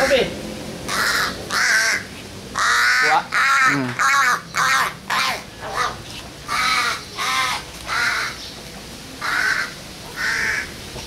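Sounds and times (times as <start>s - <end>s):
crow cawing: 0.9s - 8.4s, 9.2s - 10.7s.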